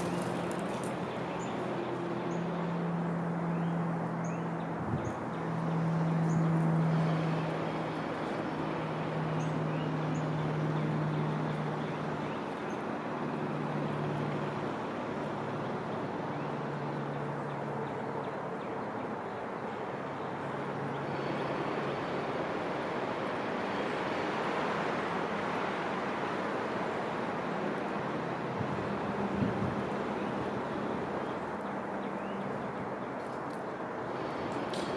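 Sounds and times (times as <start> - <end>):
distant road traffic: 0.0 - 34.9
low drone: 0.0 - 34.9.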